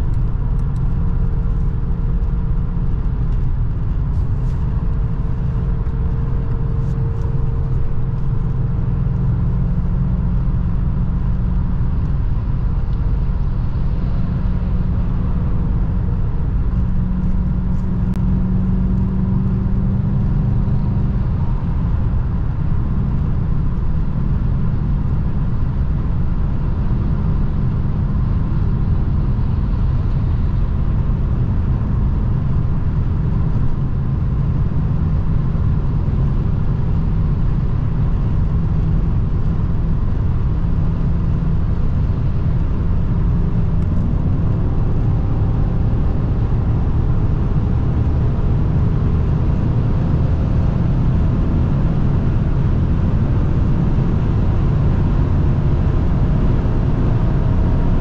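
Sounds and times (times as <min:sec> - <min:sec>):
car engine at high speed: 0:00.0 - 0:58.0
road and wind noise: 0:00.0 - 0:58.0.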